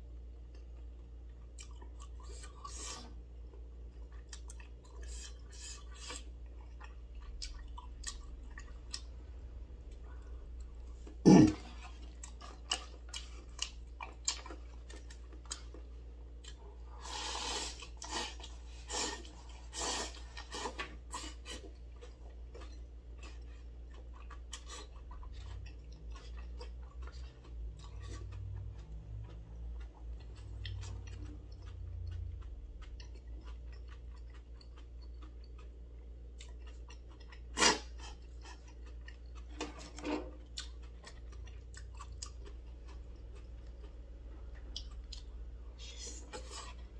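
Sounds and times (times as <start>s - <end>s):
chewing noodles: 0.4s - 46.9s.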